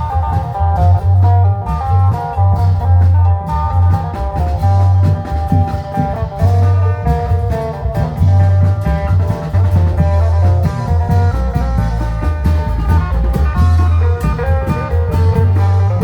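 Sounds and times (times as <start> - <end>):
drum and percussion strokes: 0.0 - 16.0
plucked string melody: 0.0 - 16.0.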